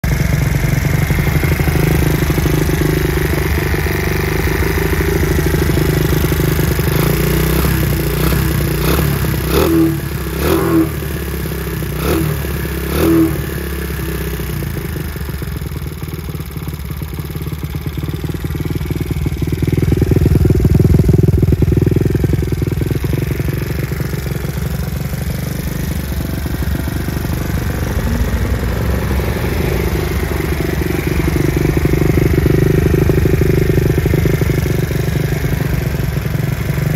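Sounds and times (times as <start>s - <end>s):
motorcycle engine idling: 0.0s - 36.9s.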